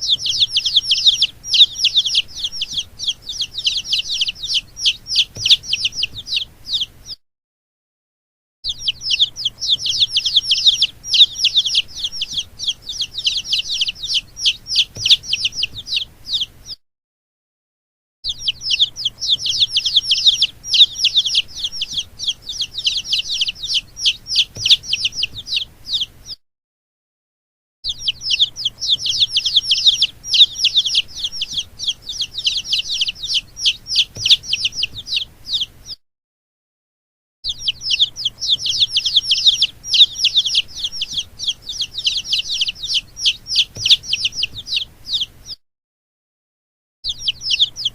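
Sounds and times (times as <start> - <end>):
baby chicks peeping: 0.0 - 7.2, 8.7 - 16.8, 18.3 - 26.4, 27.8 - 36.0, 37.4 - 45.6, 47.0 - 47.9
faint low hum: 0.0 - 7.2, 8.7 - 16.8, 18.4 - 26.4, 28.1 - 35.9, 37.7 - 45.5.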